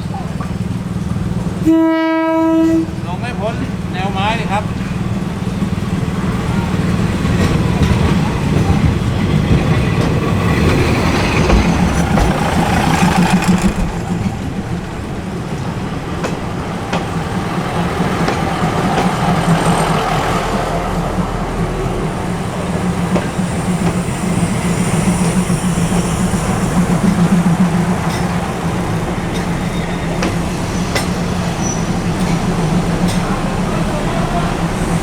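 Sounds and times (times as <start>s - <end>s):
diesel train engine drone: 0.0s - 35.0s
train wheels clicking on track: 2.7s - 35.0s.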